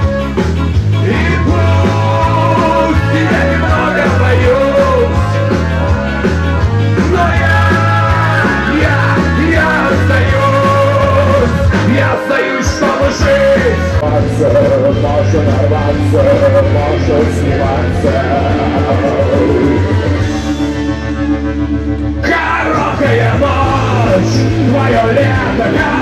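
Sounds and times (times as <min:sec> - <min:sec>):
live rock band playing: 0:00.0 - 0:26.0
pulsing bass line: 0:00.0 - 0:26.0
man singing: 0:00.8 - 0:20.0, 0:22.2 - 0:26.0.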